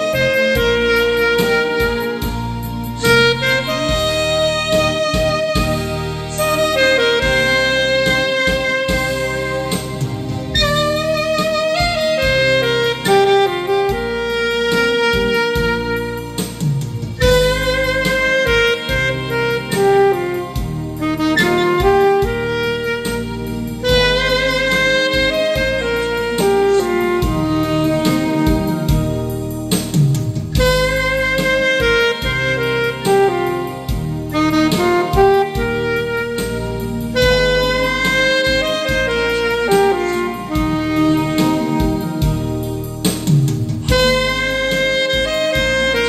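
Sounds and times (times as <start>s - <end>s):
alto saxophone slow melody: 0.0s - 46.0s
karaoke backing track with drums: 0.0s - 46.0s.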